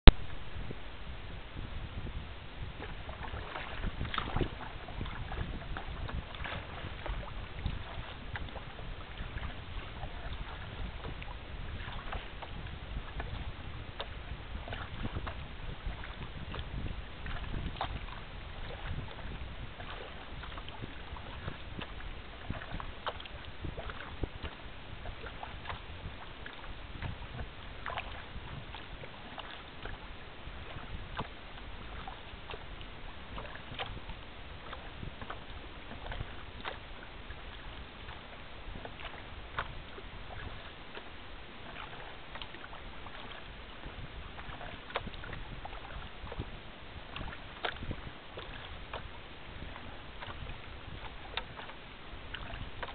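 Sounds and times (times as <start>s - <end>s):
low rumble: 0.0s - 48.2s
water splashing against kayak hull: 0.1s - 52.9s.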